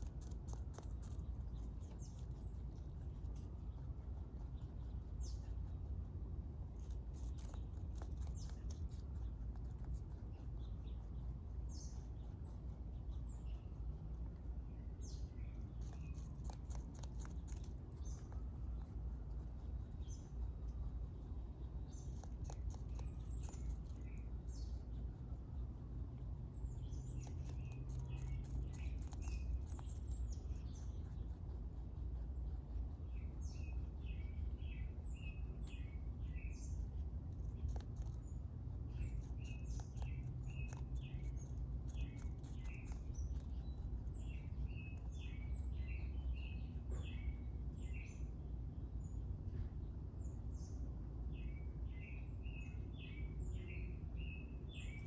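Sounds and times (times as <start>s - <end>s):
low background rumble: 0.0s - 55.0s
rabbit chewing: 0.0s - 55.0s
small birds chirping: 0.0s - 55.0s.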